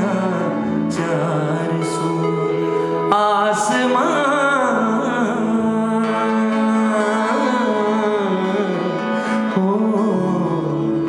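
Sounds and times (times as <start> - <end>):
keyboard backing chords: 0.0 - 11.0
person singing worship song: 0.0 - 11.0.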